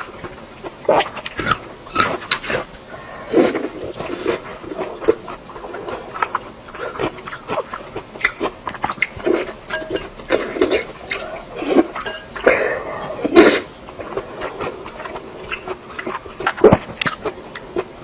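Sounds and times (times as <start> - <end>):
wet chewing and mouth noises: 0.0 - 18.0.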